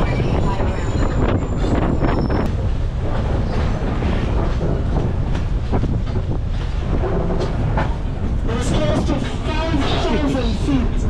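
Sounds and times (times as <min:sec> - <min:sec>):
train car rumbling on track: 0:00.0 - 0:11.0
wheels clicking on rails: 0:00.0 - 0:11.0.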